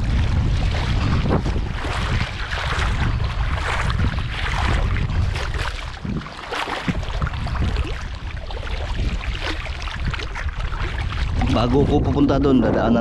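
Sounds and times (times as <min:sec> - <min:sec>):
footsteps splashing in water: 0:00.0 - 0:12.5
wind rumble on microphone: 0:00.0 - 0:13.0.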